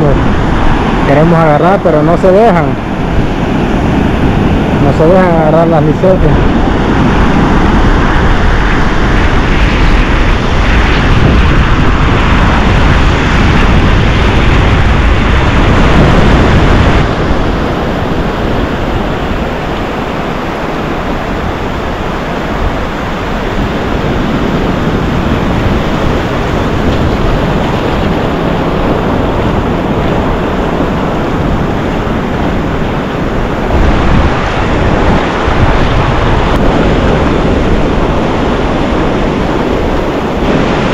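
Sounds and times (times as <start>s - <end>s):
ocean surf breaking on beach: 0.0s - 40.9s
wind rumbling on microphone: 0.0s - 40.9s.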